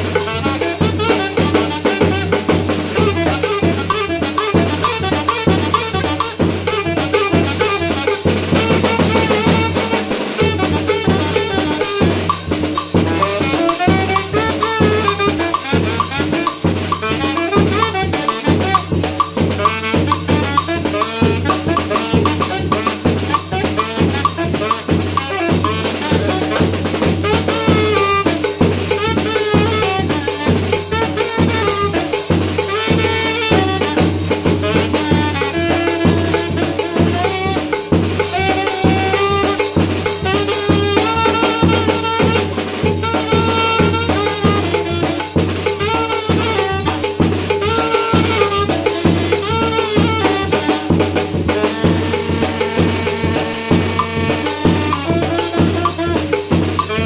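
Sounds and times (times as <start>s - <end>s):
cowbell: 0.0s - 57.0s
saxophone melody: 0.0s - 57.0s
snare drum beat: 0.0s - 57.0s
large bass drum: 1.0s - 47.5s, 48.2s - 57.0s.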